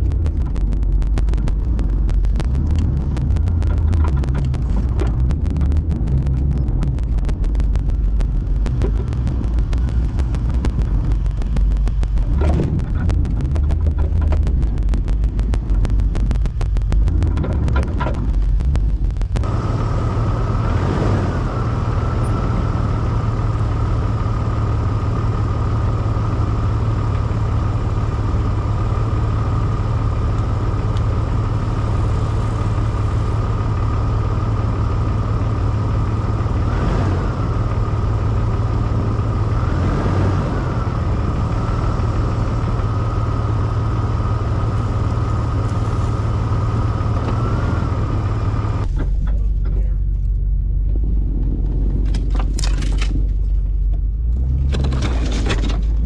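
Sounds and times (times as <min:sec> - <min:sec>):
high drivetrain whine: 0:00.0 - 0:56.0
off-road vehicle engine droning: 0:00.0 - 0:56.0.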